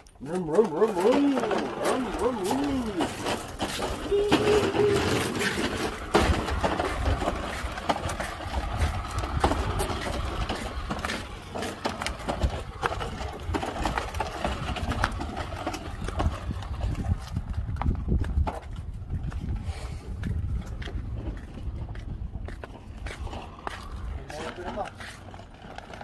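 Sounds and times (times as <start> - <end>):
lawn mower rattling on concrete: 0.0 - 26.0.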